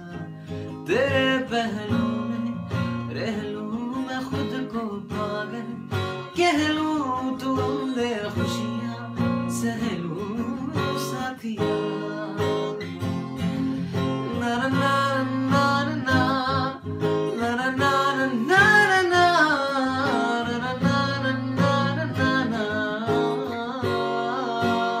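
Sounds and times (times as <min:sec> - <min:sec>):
man singing: 0:00.0 - 0:25.0
strummed acoustic guitar: 0:00.0 - 0:25.0.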